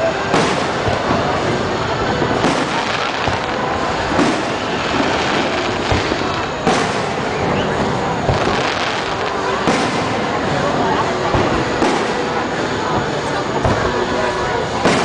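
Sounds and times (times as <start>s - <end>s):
fireworks booming: 0.0s - 15.0s
fireworks crackling hiss: 0.0s - 15.0s.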